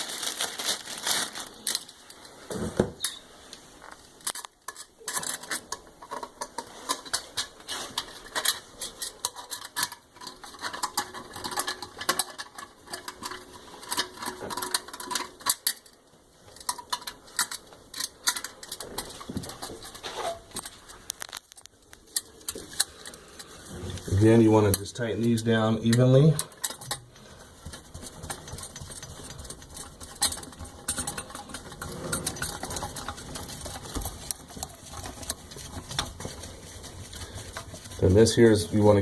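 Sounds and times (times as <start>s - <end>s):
metal nuts and washers rattling: 4.2s - 39.0s.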